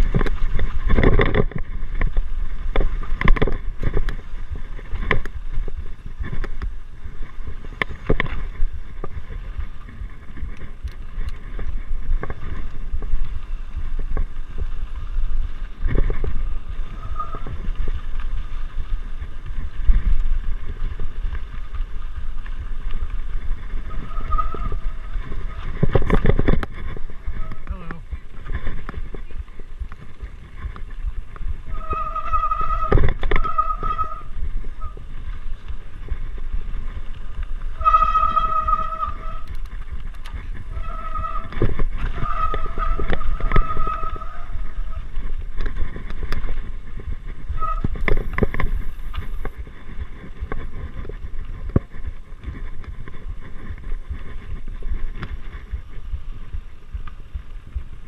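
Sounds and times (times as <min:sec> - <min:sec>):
bike rattling over bumps: 0:00.0 - 0:58.0
wind and tyres rumbling: 0:00.0 - 0:58.0.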